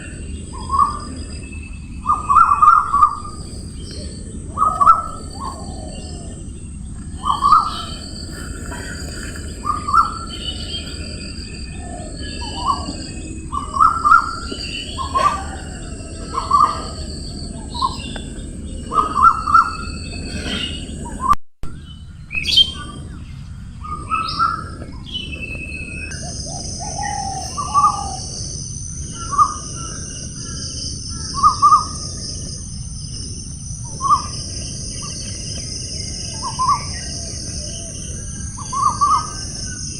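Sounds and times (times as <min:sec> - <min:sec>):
birds calling: 0:00.0 - 0:39.9
high insect drone: 0:00.0 - 0:39.9
higher insect drone: 0:00.0 - 0:39.9.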